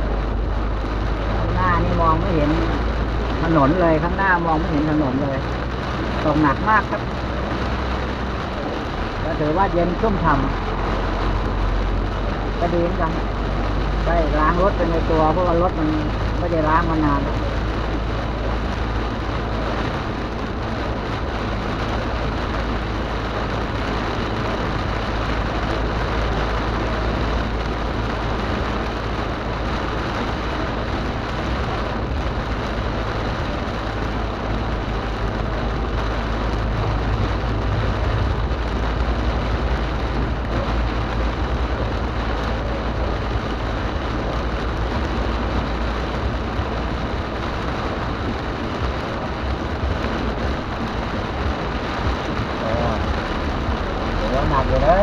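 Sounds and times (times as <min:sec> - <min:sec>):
car driving on wet road: 0:00.0 - 0:55.0
heavy rain on a car: 0:00.0 - 0:55.0.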